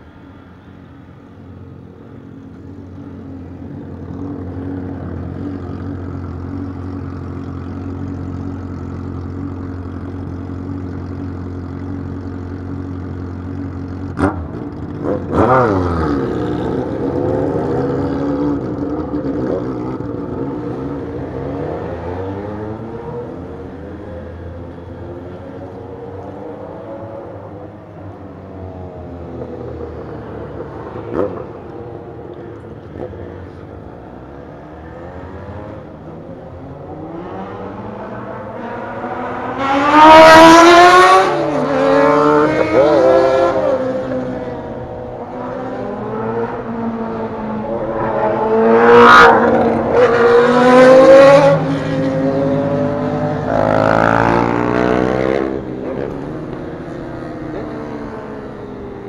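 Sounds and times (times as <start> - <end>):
motorcycle engines revving: 1.7 - 59.0.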